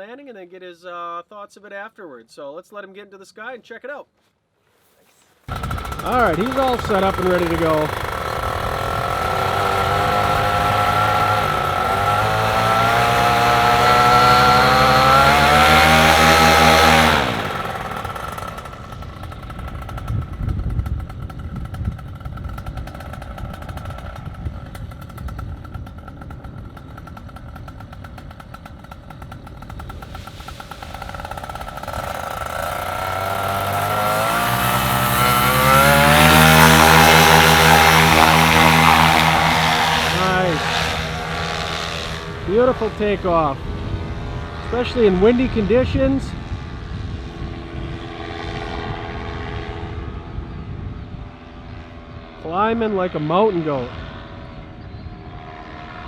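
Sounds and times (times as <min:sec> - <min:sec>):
gusty wind: 0:05.5 - 0:56.0
paramotor engine and propeller: 0:05.5 - 0:56.0.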